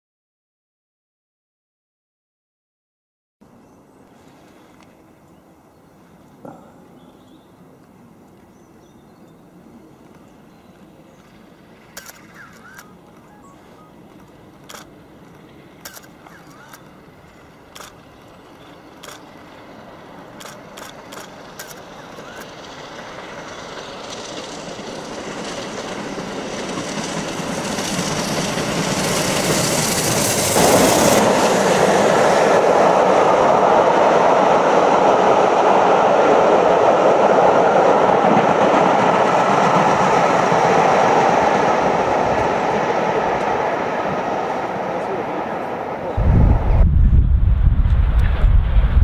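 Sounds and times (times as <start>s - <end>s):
steam locomotive passing: 3.8s - 49.0s
train wheels on track: 9.4s - 49.0s.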